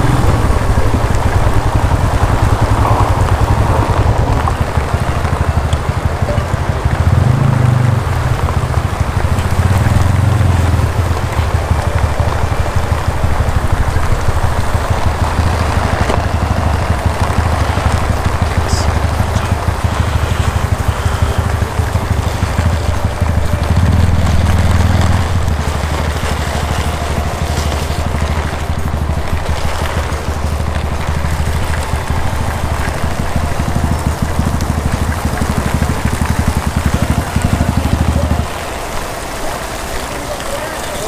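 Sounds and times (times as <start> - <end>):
heavy rain pelting down: 0.0 - 41.0
motorcycle engine idling: 0.0 - 41.0.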